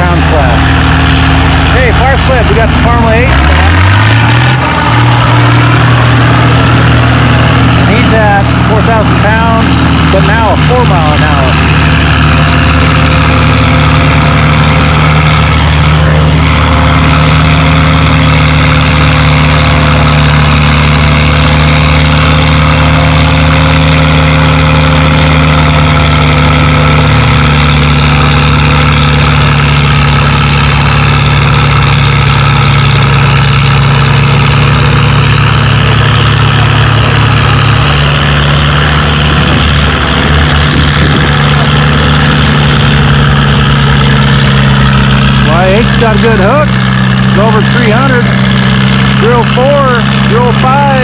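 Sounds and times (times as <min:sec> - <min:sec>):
tractor engine under load: 0:00.0 - 0:51.0.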